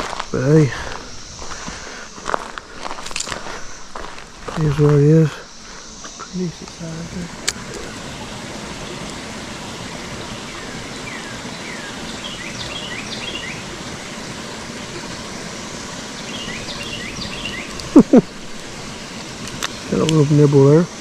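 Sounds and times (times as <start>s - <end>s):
songbird chirping: 0.0s - 20.9s
creek water rushing: 0.0s - 21.0s.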